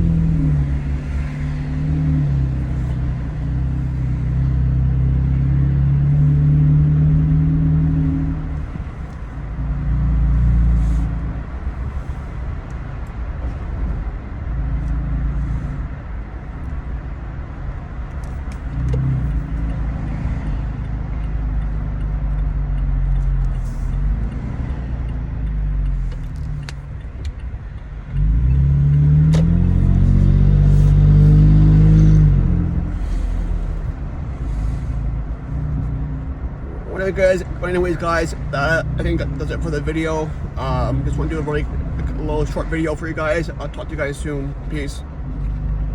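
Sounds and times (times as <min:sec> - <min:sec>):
exhaust drone while driving: 0:00.0 - 0:45.9.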